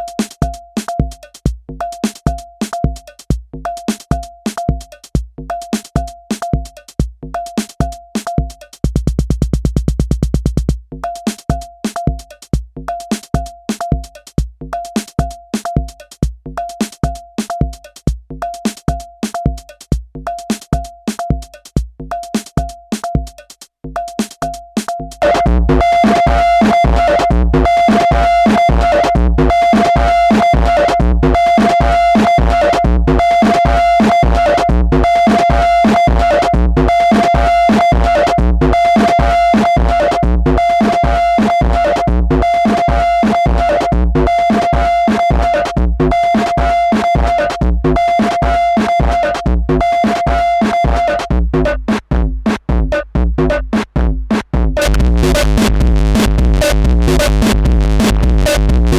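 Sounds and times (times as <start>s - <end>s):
distorted drum machine beat: 0.0s - 58.9s.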